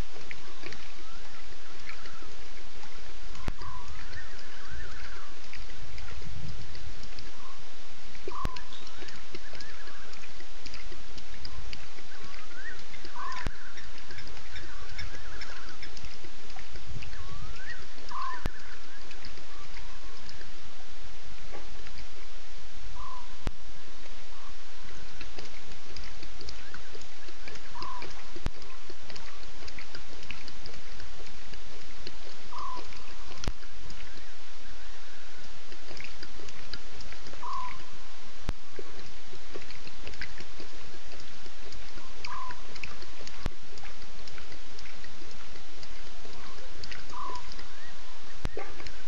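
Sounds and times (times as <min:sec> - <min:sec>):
animal chirps and trills: 0:00.0 - 0:20.6, 0:23.0 - 0:49.0
steady hiss: 0:00.0 - 0:49.0
steady low rumble: 0:00.0 - 0:49.0.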